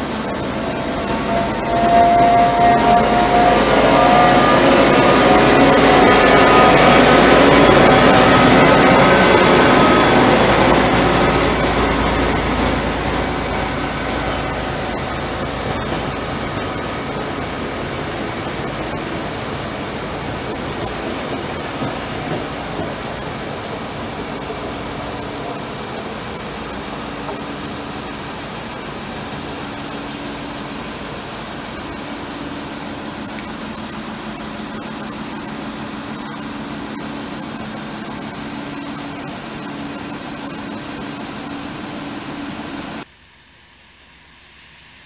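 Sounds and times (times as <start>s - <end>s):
passenger train running past: 0.0s - 43.1s.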